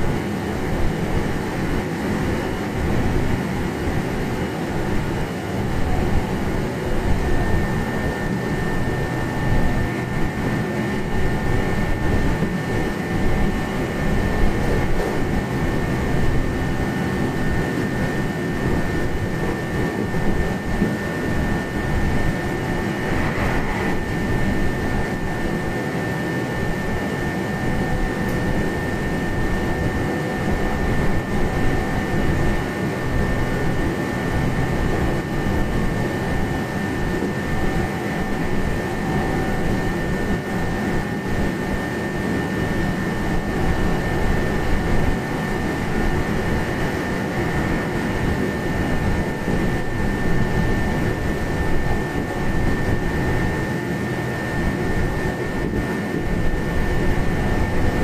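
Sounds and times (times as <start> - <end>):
high-pitched motor whine: 0.0 - 58.0.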